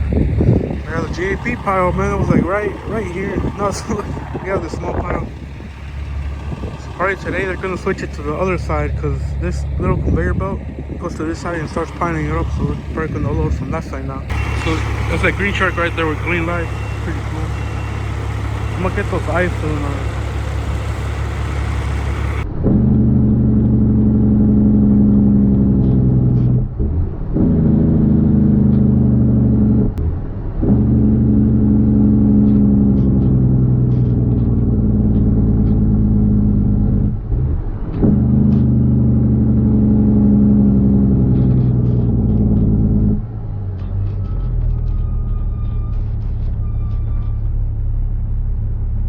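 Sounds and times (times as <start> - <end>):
diesel truck engine under load: 0.0 - 49.0.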